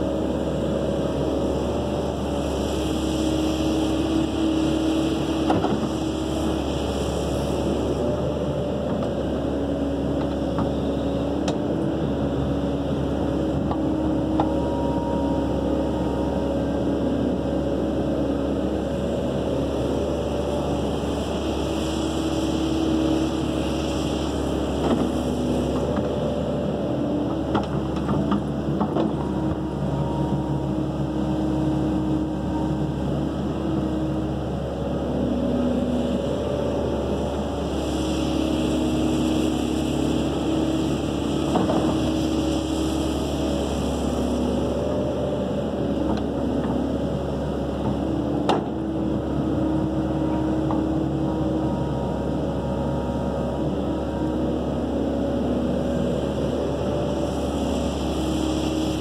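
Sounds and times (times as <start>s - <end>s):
excavator engine and hydraulics: 0.0s - 59.0s.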